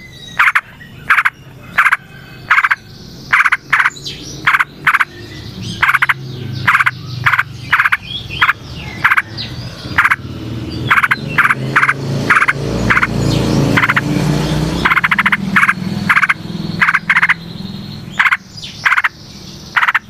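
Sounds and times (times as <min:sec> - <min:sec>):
faint bird song: 0:00.0 - 0:20.0
frogs croaking: 0:00.0 - 0:20.0.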